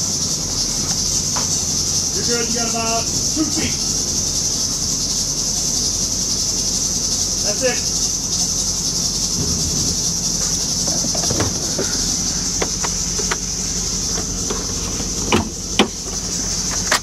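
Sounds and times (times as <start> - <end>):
crickets chirring: 0.0 - 17.0
low steady hum: 0.0 - 17.0.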